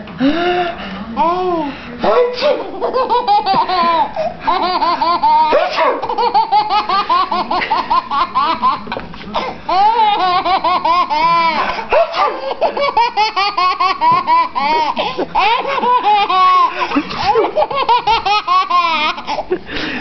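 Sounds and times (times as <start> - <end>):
baby laughing: 2.7 - 11.8, 12.4 - 19.5.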